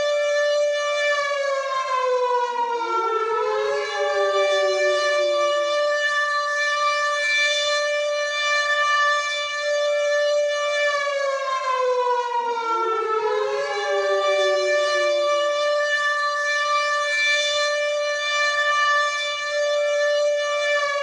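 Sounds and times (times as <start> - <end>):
air raid sirens wailing: 0.0 - 21.0.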